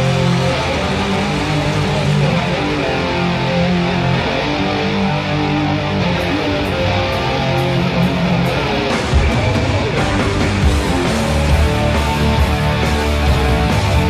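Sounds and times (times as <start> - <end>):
hard rock band playing: 0.0 - 14.0.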